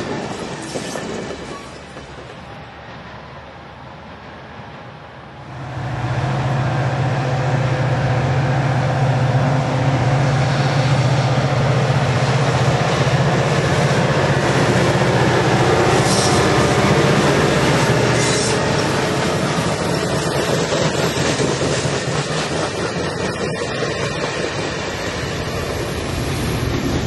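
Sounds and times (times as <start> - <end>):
diesel locomotive engine drone: 0.0 - 27.0
train wheel and rail rumble: 0.0 - 27.0.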